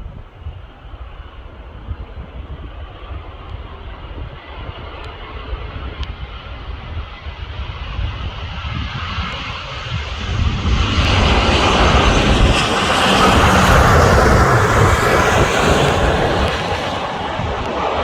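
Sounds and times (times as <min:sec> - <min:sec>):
jet airliner passing: 0:00.4 - 0:18.0.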